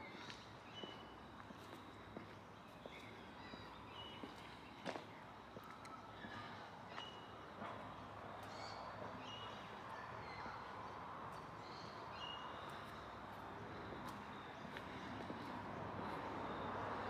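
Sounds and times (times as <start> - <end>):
birds chirping: 0.1 - 17.0.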